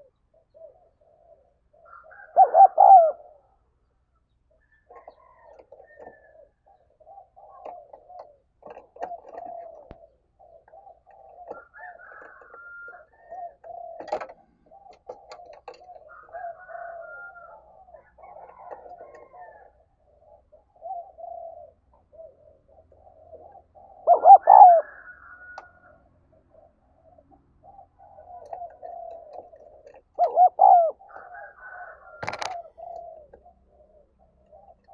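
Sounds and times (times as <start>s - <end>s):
doves cooing: 0.0s - 3.8s, 4.5s - 34.9s.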